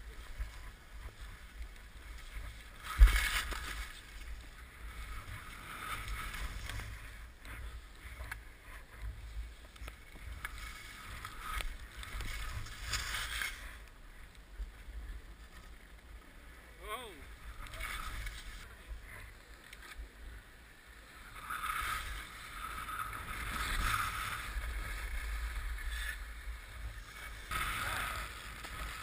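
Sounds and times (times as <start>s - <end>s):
skis scraping through snow: 0.0s - 29.0s.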